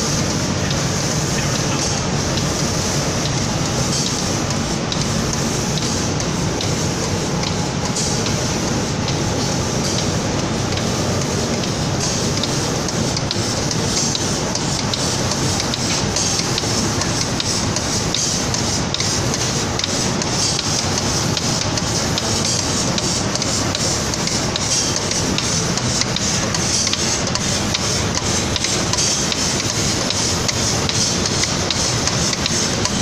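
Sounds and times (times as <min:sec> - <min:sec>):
paint spraying hiss: 0:00.1 - 0:33.0.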